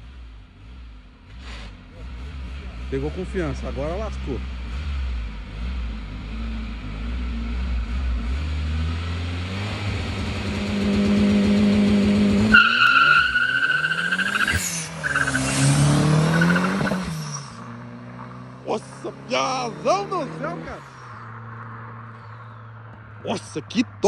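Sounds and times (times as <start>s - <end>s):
turbocharged engine accelerating: 0.0s - 23.8s.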